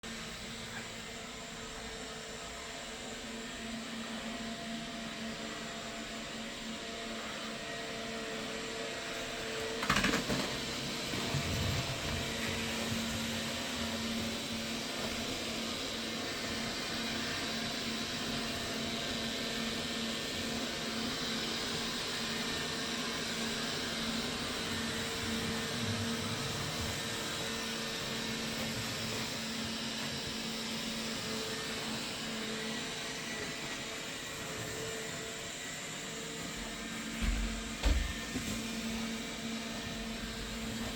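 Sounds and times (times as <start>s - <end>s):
robot vacuum whirring: 0.1s - 40.9s.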